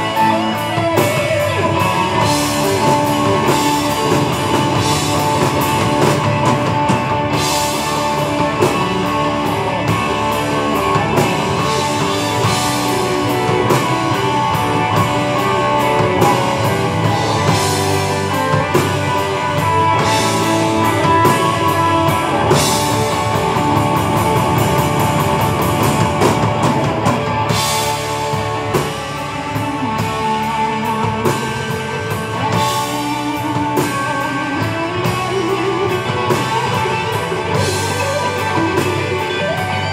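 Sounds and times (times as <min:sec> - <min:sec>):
drum kit: 0:00.0 - 0:39.9
electric guitars: 0:00.0 - 0:39.9
organ: 0:00.0 - 0:39.9.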